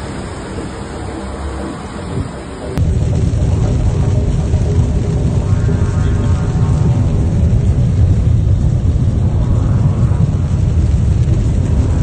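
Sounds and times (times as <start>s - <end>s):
heavy rain on car roof: 0.0s - 12.0s
loud steady low rumble: 0.0s - 12.0s.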